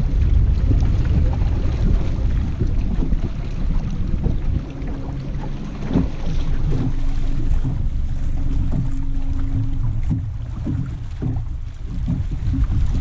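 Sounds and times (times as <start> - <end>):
low steady hum: 0.0 - 13.0
water lapping against boat hull: 0.0 - 13.0
wind buffeting microphone: 0.0 - 13.0.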